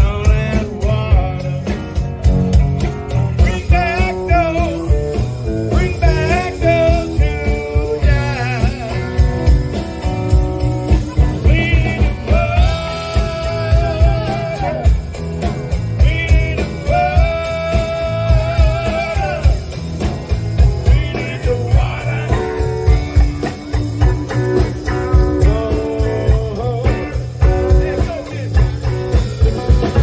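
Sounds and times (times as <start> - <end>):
blues-rock music with singer: 0.0 - 30.0.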